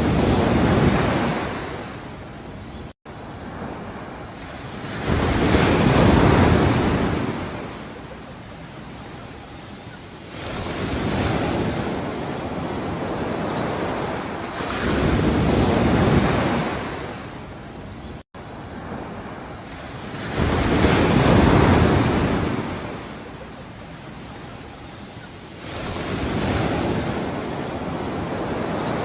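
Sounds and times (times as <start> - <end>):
ocean waves breaking: 0.0 - 29.0.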